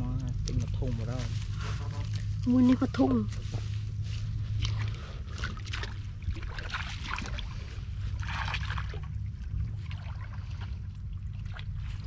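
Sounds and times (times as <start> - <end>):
steady low hum: 0.0 - 12.0
water sloshing and splashing: 0.7 - 12.0.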